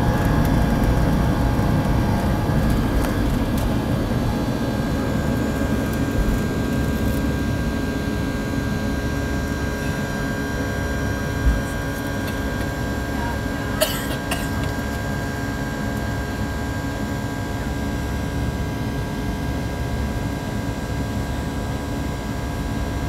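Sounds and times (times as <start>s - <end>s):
jet engine cabin noise: 0.0s - 23.0s.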